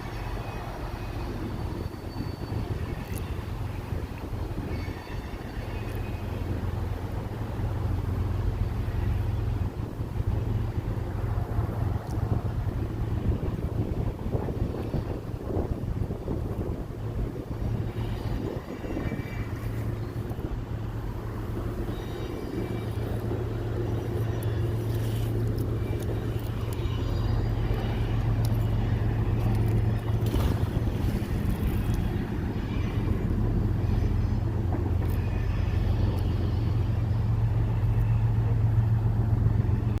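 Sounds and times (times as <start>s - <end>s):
low engine drone: 0.0s - 40.0s.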